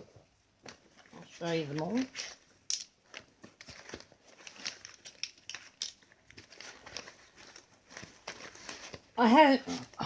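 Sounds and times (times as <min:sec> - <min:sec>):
pens rustling in pouch: 0:00.6 - 0:10.0.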